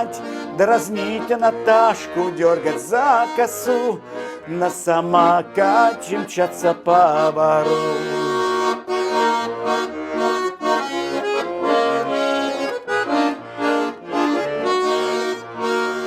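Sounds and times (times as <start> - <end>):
button accordion playing: 0.0 - 16.0.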